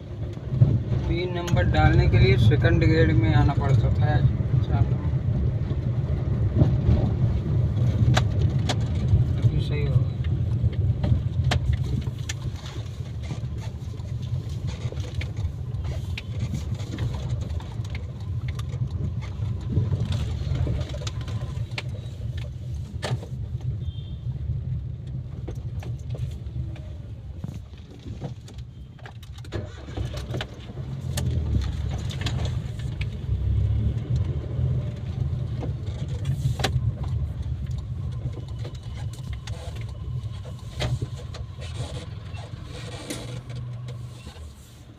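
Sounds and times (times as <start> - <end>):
low engine rumble: 0.0 - 44.9
road noise: 0.0 - 44.9.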